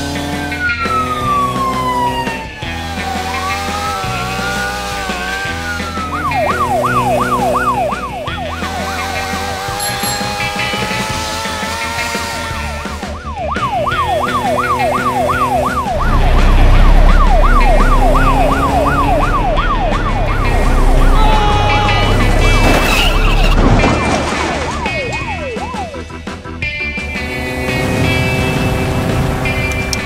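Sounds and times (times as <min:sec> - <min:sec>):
police siren yelping: 0:00.2 - 0:26.1.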